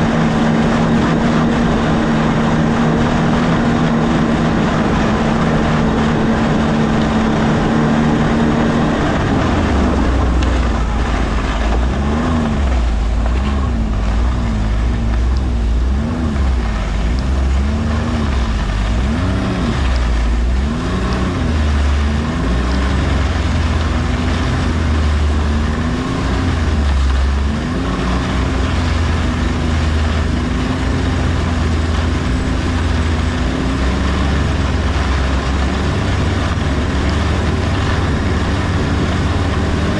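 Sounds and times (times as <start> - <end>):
vehicle engine running under load: 0.0 - 39.9.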